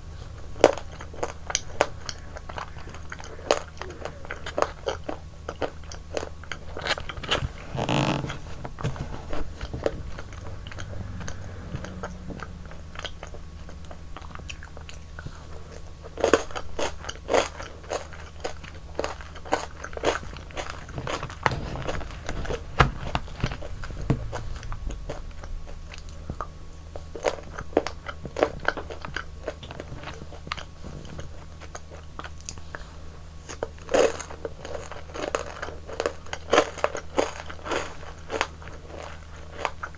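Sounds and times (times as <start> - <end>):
crunching and chewing ice cream: 0.0 - 39.9
steady low hum: 0.0 - 39.9.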